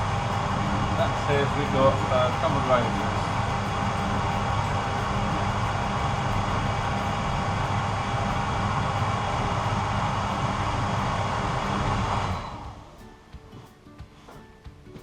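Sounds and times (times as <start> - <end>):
tumble dryer running: 0.0 - 13.0
airflow hiss: 0.0 - 14.5.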